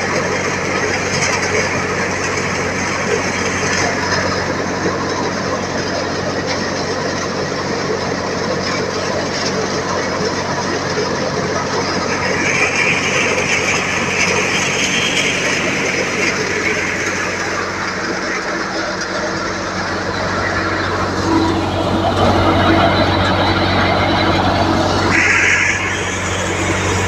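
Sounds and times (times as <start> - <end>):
thresher mechanical churn: 0.0 - 27.0
tractor diesel engine drone: 0.0 - 27.0.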